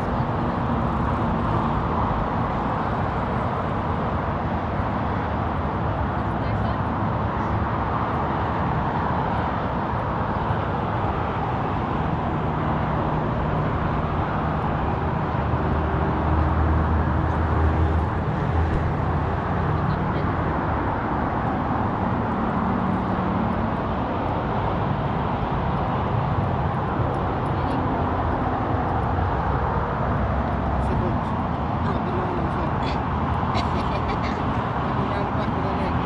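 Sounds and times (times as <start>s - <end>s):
distant road traffic rumble: 0.0s - 36.0s
low engine hum: 0.0s - 36.0s.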